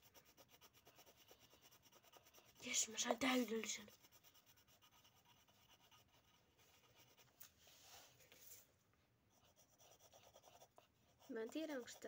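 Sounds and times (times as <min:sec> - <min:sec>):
pencil scratching on paper: 0:00.0 - 0:07.5, 0:09.3 - 0:12.0.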